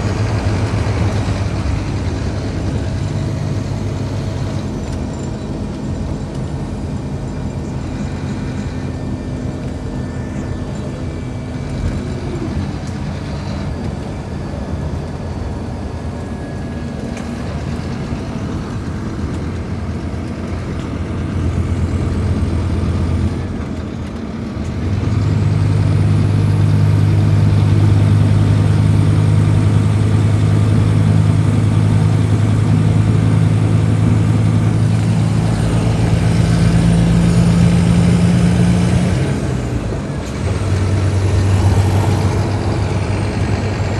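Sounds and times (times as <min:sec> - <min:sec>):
bus diesel engine running: 0:00.0 - 0:43.9.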